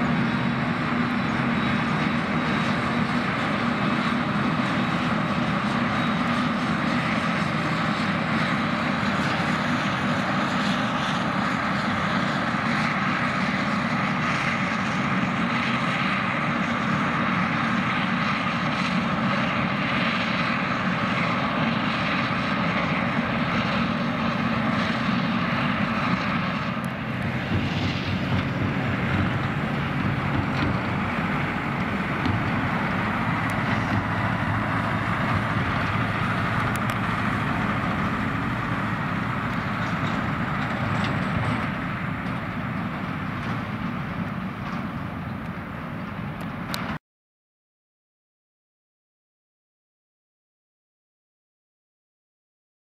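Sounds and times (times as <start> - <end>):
heavy engine drone: 0.0 - 47.0.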